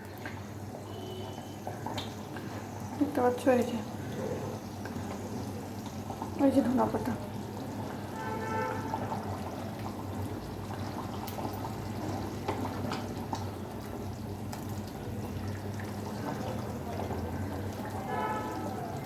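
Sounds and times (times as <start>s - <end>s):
curry bubbling in a pot: 0.0s - 19.0s.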